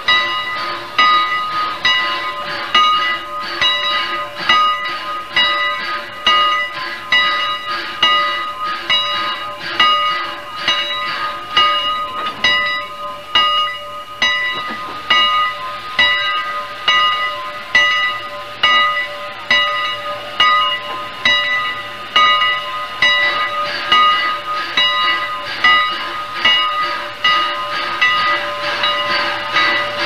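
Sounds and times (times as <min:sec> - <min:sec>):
locomotive bell ringing: 0:00.0 - 0:30.0.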